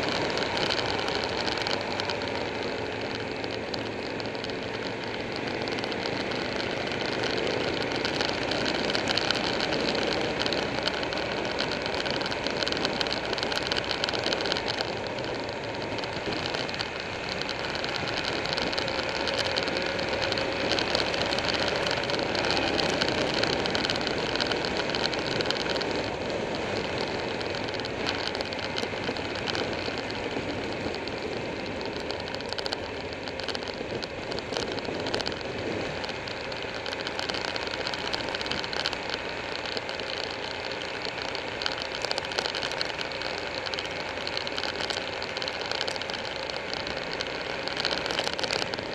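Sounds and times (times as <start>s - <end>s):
motorcycle engine cruising: 0.0s - 48.9s
wind and road noise: 0.0s - 48.9s.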